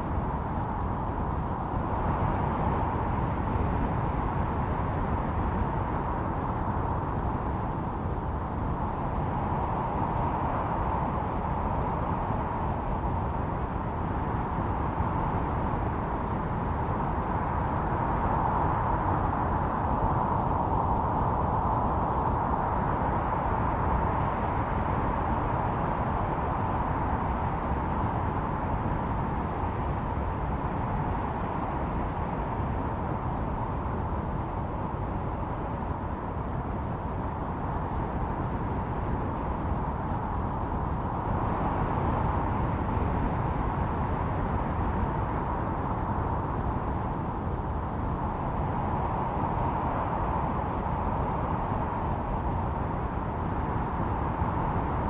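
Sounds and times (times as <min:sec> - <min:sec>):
howling gusty wind: 0:00.0 - 0:55.0.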